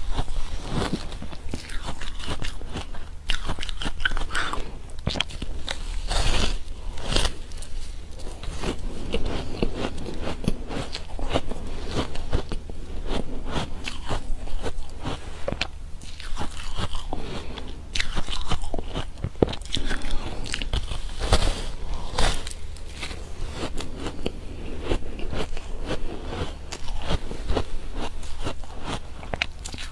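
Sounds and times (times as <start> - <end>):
person chewing icy frozen cake: 0.0 - 29.9.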